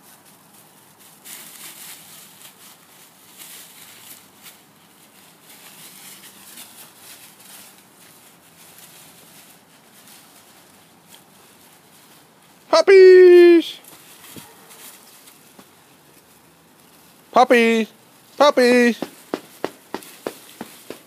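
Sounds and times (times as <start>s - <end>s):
dry leaves rustling and crackling: 0.0s - 21.0s.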